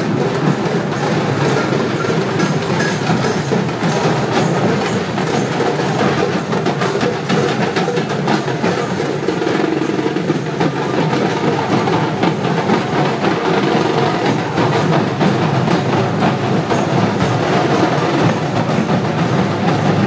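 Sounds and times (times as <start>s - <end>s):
rapid drumming: 0.0s - 20.0s.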